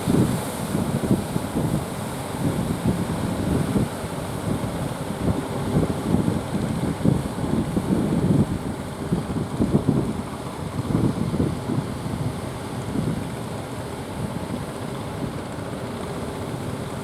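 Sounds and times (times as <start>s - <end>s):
wind buffeting microphone: 0.0s - 15.4s
sea surf rushing: 0.0s - 17.0s.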